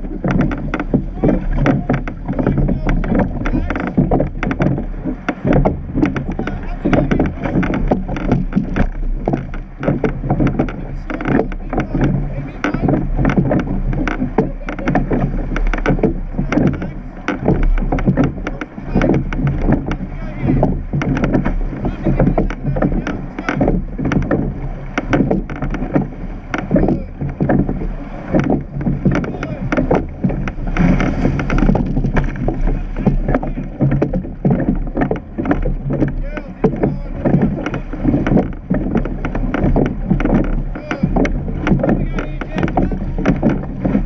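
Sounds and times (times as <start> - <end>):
oars knocking in rowlocks: 0.0 - 44.0
water and wind rumble: 0.0 - 44.0.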